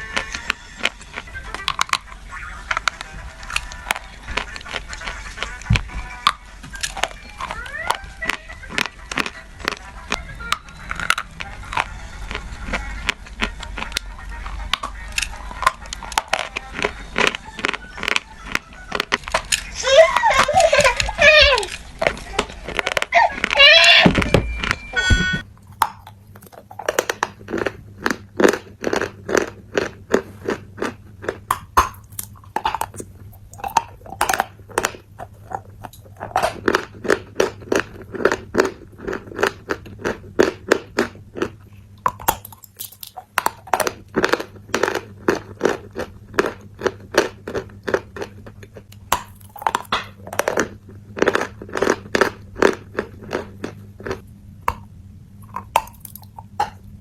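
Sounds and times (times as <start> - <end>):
low hum: 0.0 - 57.0
person chewing crunchy food: 0.0 - 57.0.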